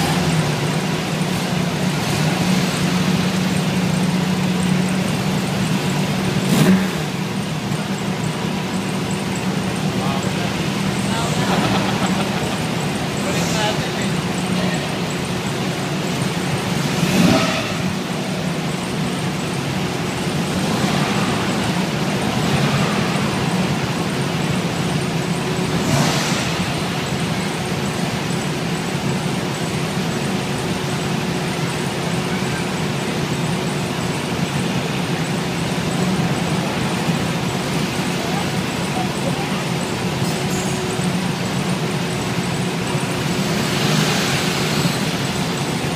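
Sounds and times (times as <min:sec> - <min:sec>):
bus engines idling: 0:00.0 - 0:45.9
engine surges: 0:00.0 - 0:45.9.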